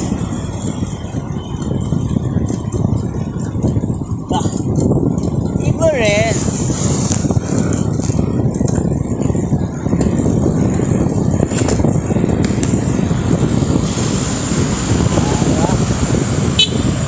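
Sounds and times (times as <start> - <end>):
car traffic: 0.0 - 17.0
wind rumble on microphone: 0.0 - 17.0.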